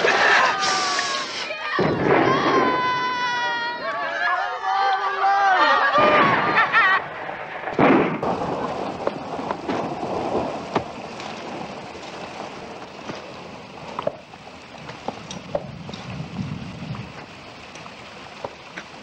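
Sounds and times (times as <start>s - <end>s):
steady rain-like hiss: 0.0s - 19.0s.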